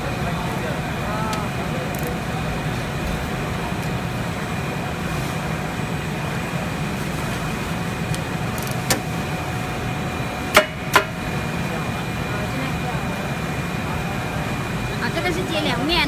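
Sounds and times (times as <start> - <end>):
printing machinery humming: 0.0 - 16.0.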